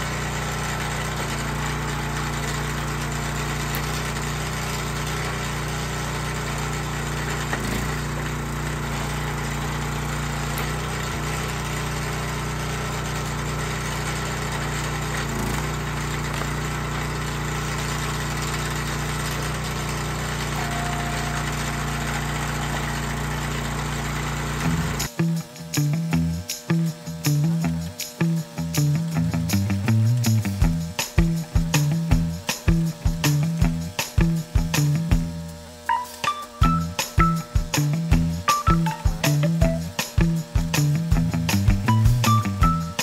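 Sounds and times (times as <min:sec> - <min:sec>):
log splitter engine running: 0:00.0 - 0:43.0.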